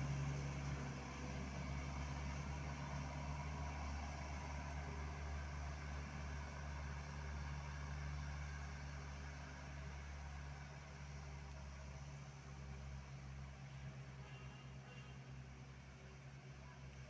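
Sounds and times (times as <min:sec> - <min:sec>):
diesel truck engine humming: 0:00.0 - 0:17.0.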